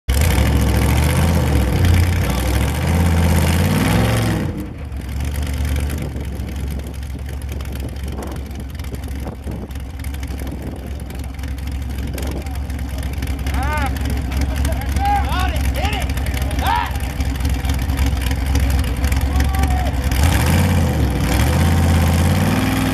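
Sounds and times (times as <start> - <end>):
race car engine revving: 0.1 - 6.9, 7.5 - 22.9
car engine idling: 0.1 - 22.9.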